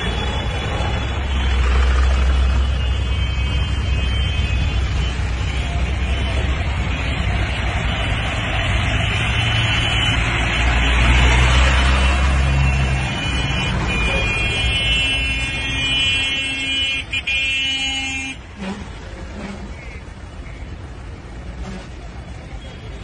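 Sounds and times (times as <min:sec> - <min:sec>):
vehicle horns honking: 0:00.0 - 0:20.8
heavy vehicle engines rumbling: 0:00.0 - 0:23.0.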